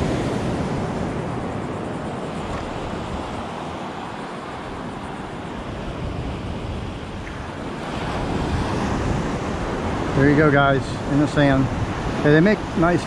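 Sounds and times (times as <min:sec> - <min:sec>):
surf washing up sand: 0:00.0 - 0:13.0
wind buffeting microphone: 0:00.0 - 0:13.0.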